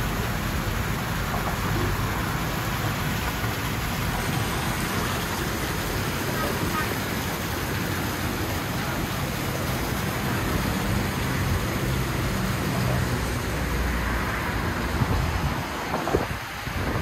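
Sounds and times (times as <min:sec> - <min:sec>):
water rushing and bubbling: 0:00.0 - 0:17.0.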